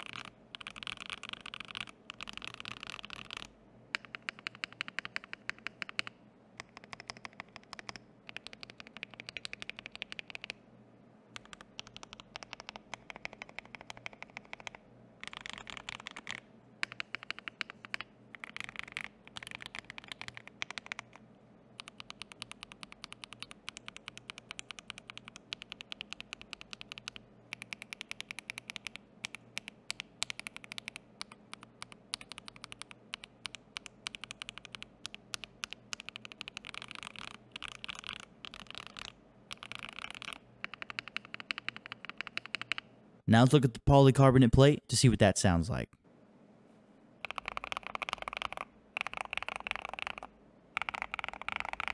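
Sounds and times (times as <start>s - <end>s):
typing on mechanical keyboard: 0.0s - 10.6s, 11.4s - 21.2s, 21.8s - 42.9s, 47.2s - 51.9s.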